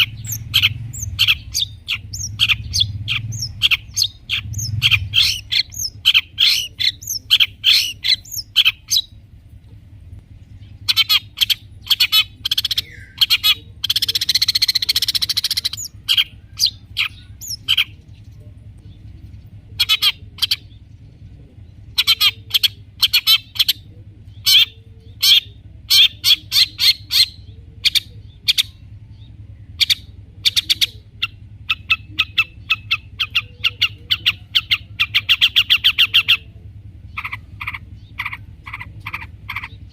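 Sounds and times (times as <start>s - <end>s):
bird singing sharp chips and chatter: 0.0s - 39.9s.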